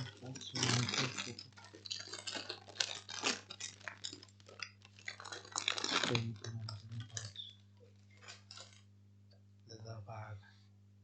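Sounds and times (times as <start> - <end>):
snack bag crinkling: 0.0 - 8.8.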